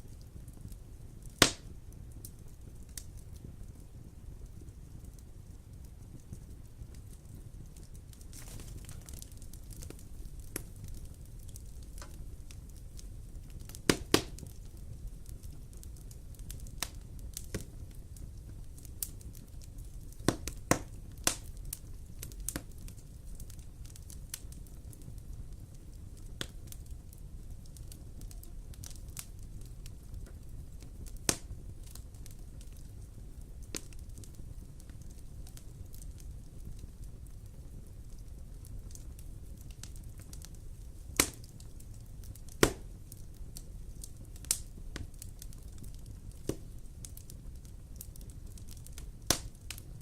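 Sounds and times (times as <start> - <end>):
fire crackling and popping: 0.0 - 50.0
low rumble of burning: 0.0 - 50.0.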